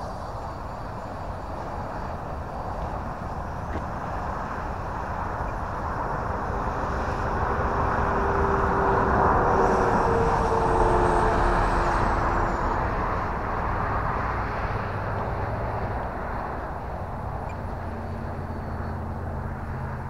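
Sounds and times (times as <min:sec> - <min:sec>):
model jet flying past: 0:00.0 - 0:18.2.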